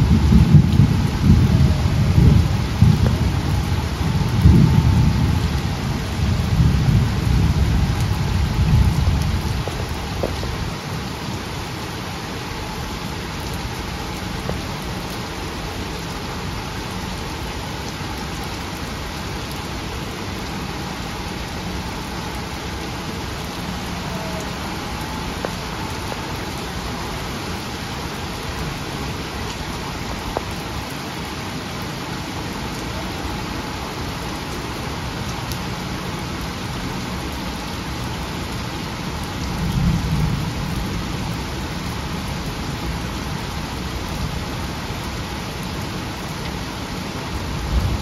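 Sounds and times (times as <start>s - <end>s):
heavy rain on flooded road: 0.0s - 48.0s.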